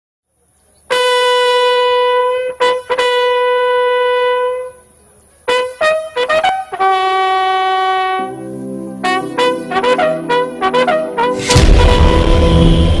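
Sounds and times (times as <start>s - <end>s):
bugle call: 0.9s - 4.9s, 5.5s - 13.0s.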